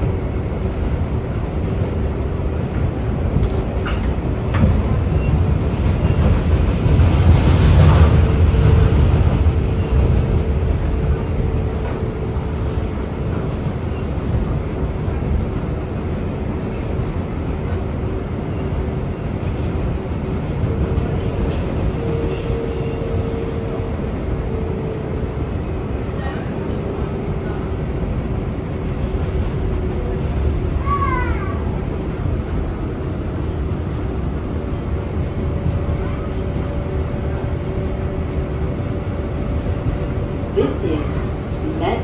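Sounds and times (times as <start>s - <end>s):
subway train wheels and motors rumbling: 0.0s - 42.0s.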